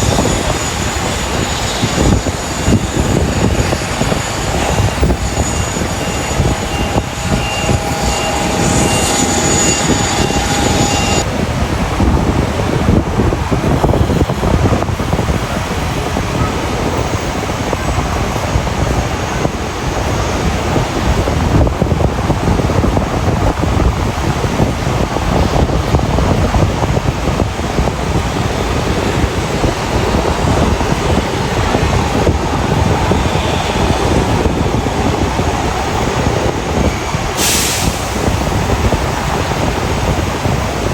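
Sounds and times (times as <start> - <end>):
jet engine whine: 0.0 - 40.9
jet engines rumbling: 0.0 - 40.9.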